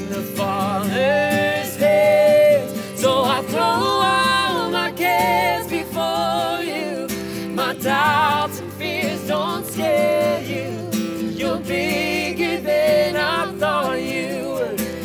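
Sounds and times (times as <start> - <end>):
acoustic guitar: 0.0 - 15.0
voices singing a worship song: 0.0 - 15.0.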